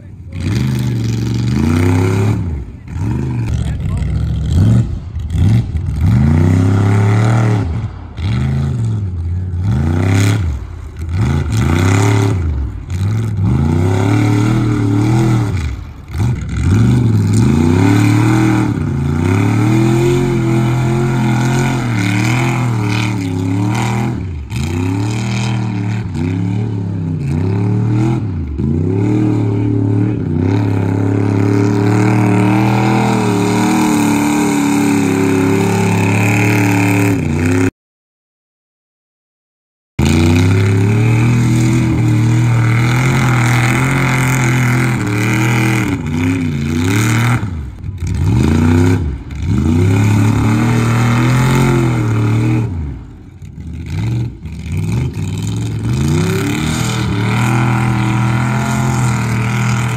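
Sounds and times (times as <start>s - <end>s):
truck churning through mud: 0.0s - 37.7s, 40.0s - 59.9s
truck engine revving: 0.0s - 37.7s, 40.0s - 59.9s.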